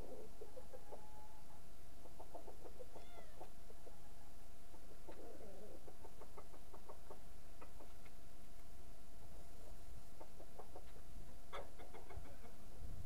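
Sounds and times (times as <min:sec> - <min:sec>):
roosters clucking: 0:00.0 - 0:08.6, 0:09.3 - 0:12.7.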